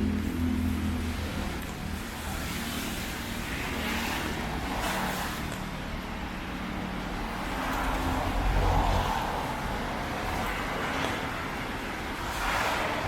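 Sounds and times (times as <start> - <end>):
tyres on wet street: 0.0 - 13.0
vehicle passing with tyre spray: 0.0 - 13.0.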